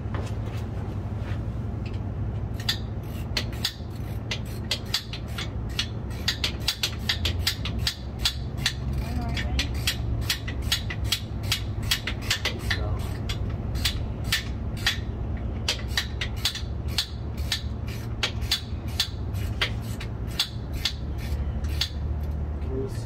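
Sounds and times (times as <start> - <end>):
steady low hum: 0.0 - 23.0
hand tools clicking on bolts: 2.6 - 22.4.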